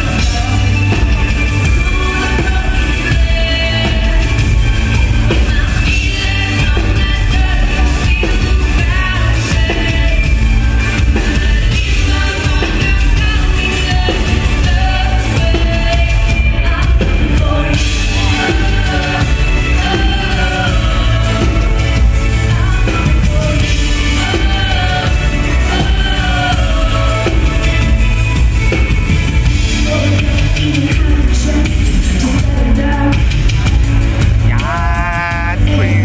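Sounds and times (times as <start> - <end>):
electropop band playing: 0.0 - 36.0
woman singing: 0.0 - 36.0.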